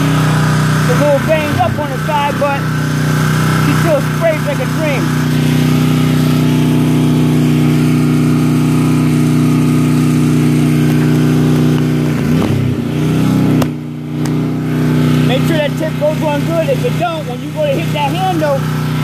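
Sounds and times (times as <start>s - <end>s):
pressure washer engine running: 0.0s - 19.0s.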